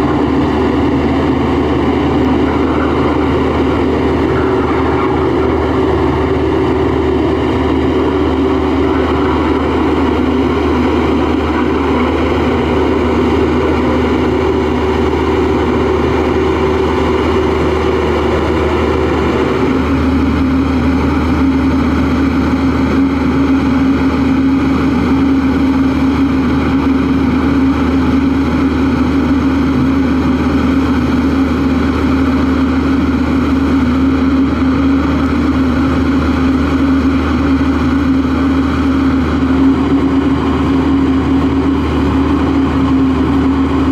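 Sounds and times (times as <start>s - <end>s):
roller compactor engine rumble: 0.0s - 43.9s
vibration hum: 0.0s - 43.9s.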